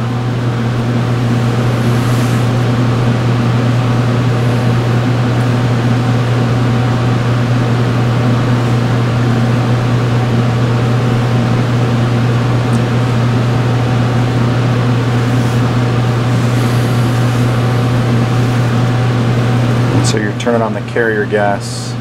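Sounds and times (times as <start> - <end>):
laboratory equipment humming: 0.0 - 22.0.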